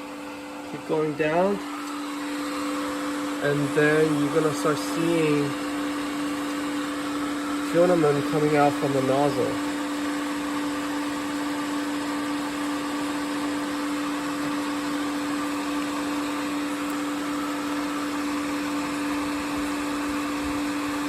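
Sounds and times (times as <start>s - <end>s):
printer whirring hum: 0.0s - 21.0s.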